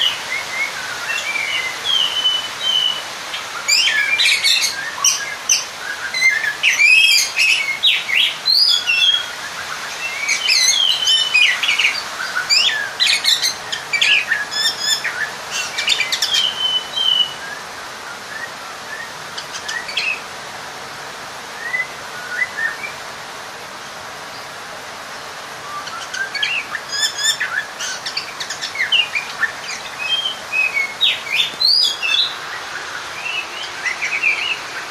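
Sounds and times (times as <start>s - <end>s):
bird singing whistles and chirps: 0.0s - 20.2s, 21.6s - 23.0s, 25.6s - 34.9s
steady hiss: 0.0s - 34.9s.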